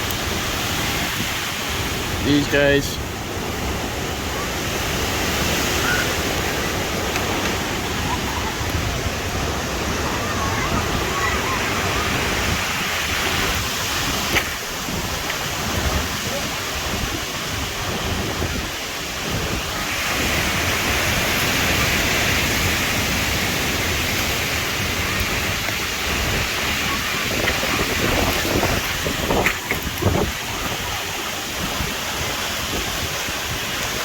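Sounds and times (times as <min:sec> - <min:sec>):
gusting storm wind: 0:00.0 - 0:34.0
heavy rain: 0:00.0 - 0:34.0
wind buffeting microphone: 0:00.0 - 0:34.0.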